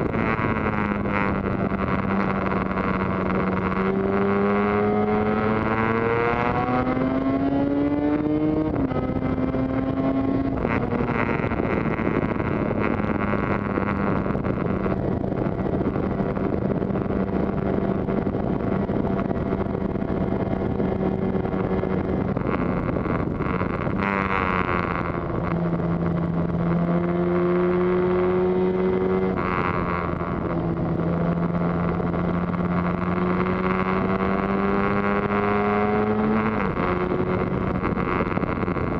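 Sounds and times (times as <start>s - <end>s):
two-stroke motorcycle engine revving: 0.0s - 38.9s
wind rush: 0.0s - 38.9s.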